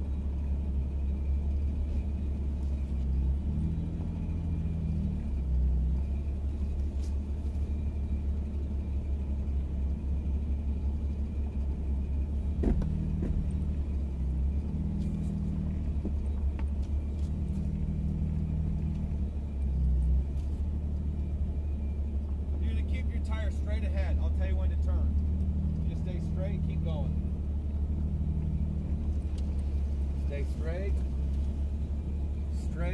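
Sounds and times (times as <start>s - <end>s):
engine low steady rumble: 0.0s - 32.9s.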